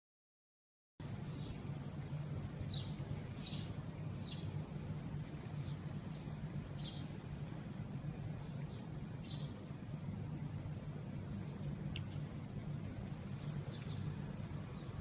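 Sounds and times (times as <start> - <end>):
small birds chirping: 1.0 - 15.0
steady low hum: 1.0 - 15.0.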